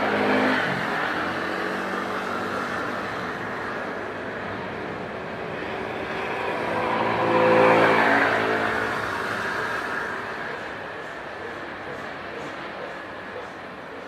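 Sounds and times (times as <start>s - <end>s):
jet airliner engine roar: 0.0s - 14.0s.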